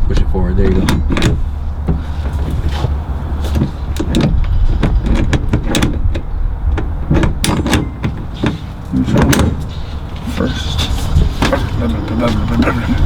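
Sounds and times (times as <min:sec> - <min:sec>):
gear shifter clicks and clunks: 0:00.0 - 0:13.0
steady low rumble: 0:00.0 - 0:13.0.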